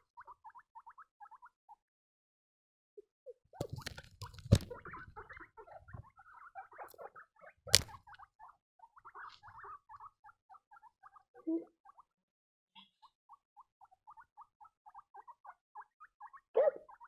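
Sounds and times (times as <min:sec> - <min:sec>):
guinea pigs squeaking: 0:00.0 - 0:01.8, 0:03.2 - 0:12.2, 0:12.8 - 0:17.0.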